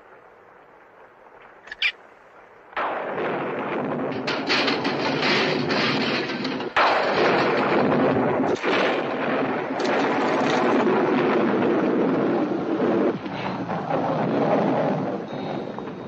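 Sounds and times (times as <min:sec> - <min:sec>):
heavy rain: 0:00.0 - 0:16.0
thunder crash: 0:02.7 - 0:16.0.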